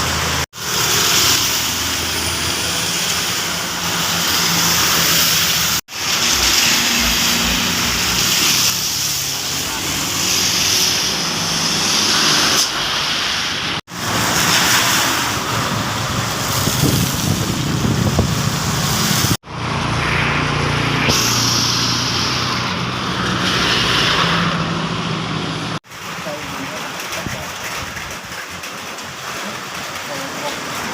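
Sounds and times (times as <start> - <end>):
heavy rain and tyre spray hiss: 0.0 - 30.9
truck engines running low: 0.0 - 30.9.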